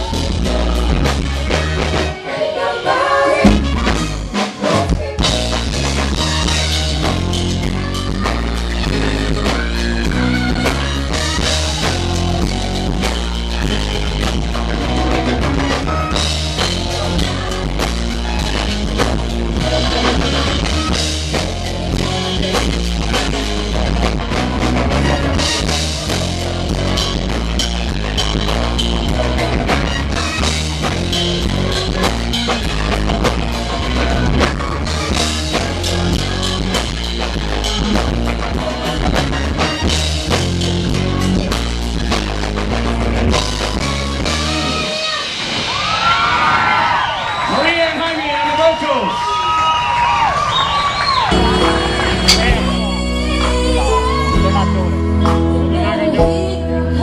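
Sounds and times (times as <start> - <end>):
rock band music: 0.0 - 46.4, 51.1 - 57.0.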